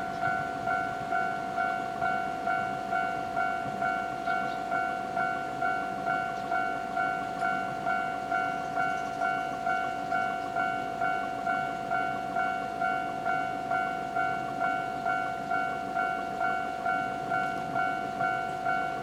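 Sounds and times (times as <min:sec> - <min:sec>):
level-crossing warning bell ringing: 0:00.0 - 0:19.0.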